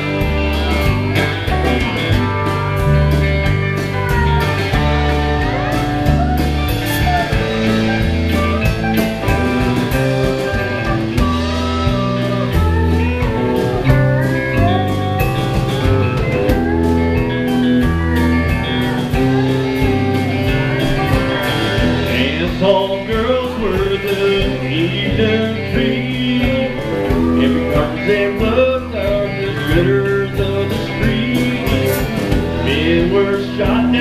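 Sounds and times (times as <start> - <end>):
bass and drum kit: 0.0 - 34.0
electric guitars: 0.0 - 34.0
steel guitar sliding: 0.0 - 34.0.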